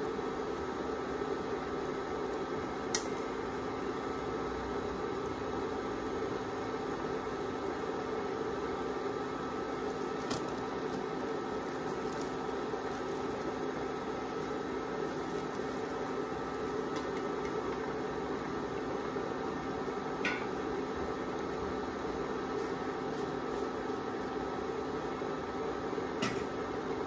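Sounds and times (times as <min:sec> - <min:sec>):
cooling fan hum: 0:00.0 - 0:27.0.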